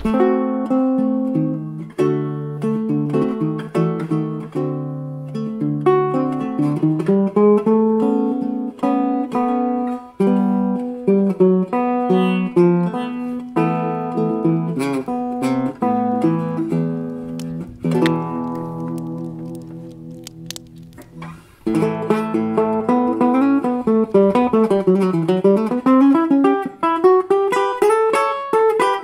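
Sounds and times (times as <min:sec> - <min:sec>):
acoustic guitar picking melody: 0:00.0 - 0:29.0.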